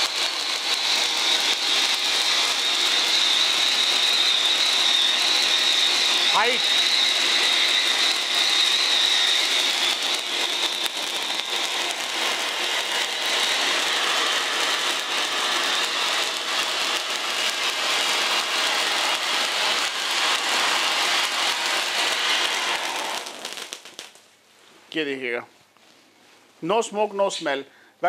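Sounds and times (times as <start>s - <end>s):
high whistling: 0.0s - 23.8s
spark fountain hissing and crackling: 0.0s - 24.3s.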